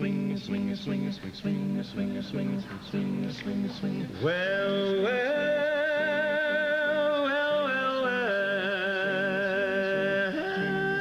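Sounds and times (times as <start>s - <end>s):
men singing close harmony: 0.0s - 11.0s.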